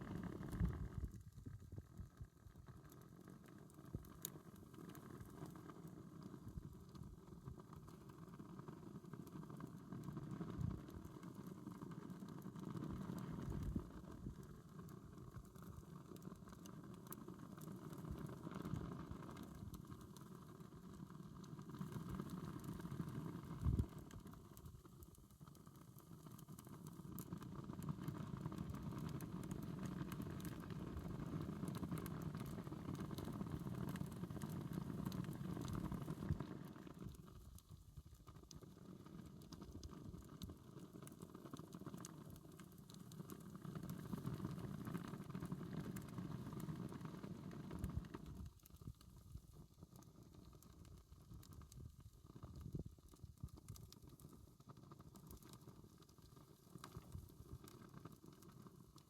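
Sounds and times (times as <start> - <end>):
campfire crackling and popping: 0.0 - 59.0
low rumbling fire noise: 0.0 - 59.0.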